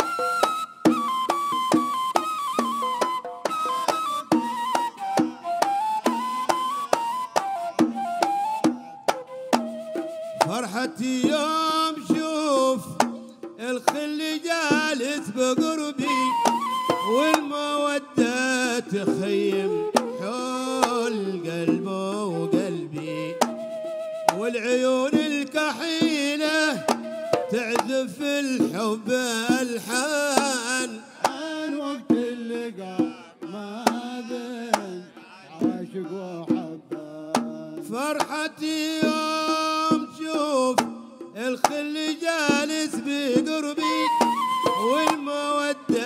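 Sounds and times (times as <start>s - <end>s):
small hand drums: 0.0s - 46.0s.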